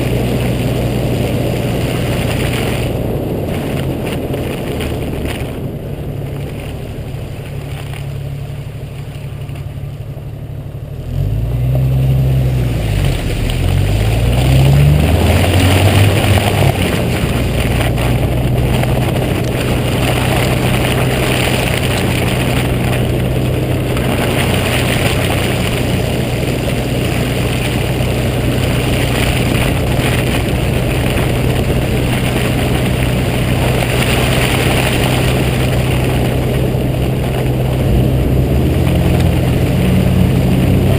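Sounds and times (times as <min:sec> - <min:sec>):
car engine accelerating: 0:00.0 - 0:40.9
tyres hissing on snowy road: 0:00.0 - 0:40.9.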